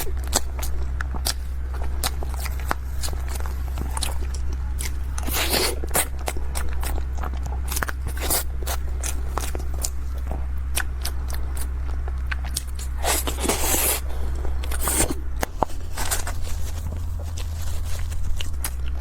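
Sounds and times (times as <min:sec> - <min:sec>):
biting and chewing: 0:00.0 - 0:19.0
crunchy rustle: 0:00.0 - 0:19.0
low hum: 0:00.0 - 0:19.0.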